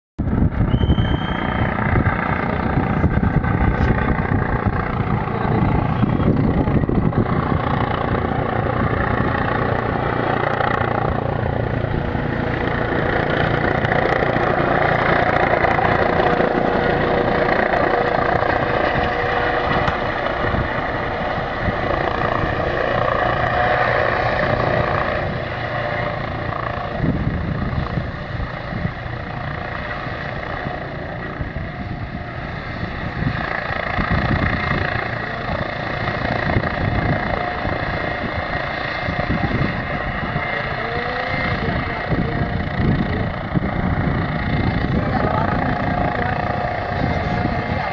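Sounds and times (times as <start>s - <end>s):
helicopter rotor and turbine: 0.2s - 47.9s.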